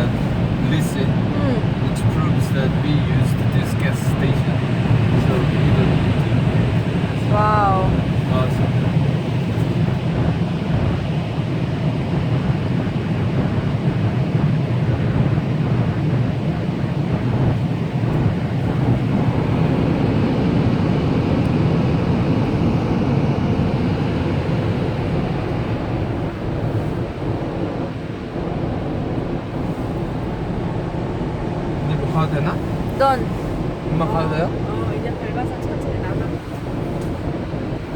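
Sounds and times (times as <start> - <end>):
car wash machinery rushing: 0.0 - 10.4, 16.8 - 37.9.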